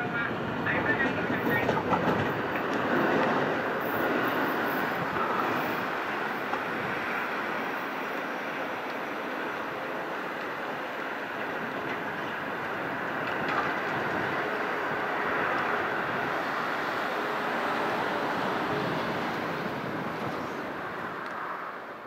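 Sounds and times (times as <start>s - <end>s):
electric train rolling: 0.0s - 22.0s.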